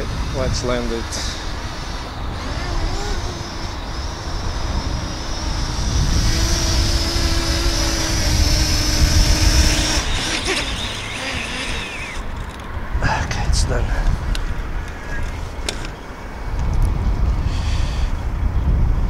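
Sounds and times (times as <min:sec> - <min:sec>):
drone propellers whining: 0:00.0 - 0:13.0, 0:14.1 - 0:16.5
wind rumble on microphone: 0:00.0 - 0:19.0.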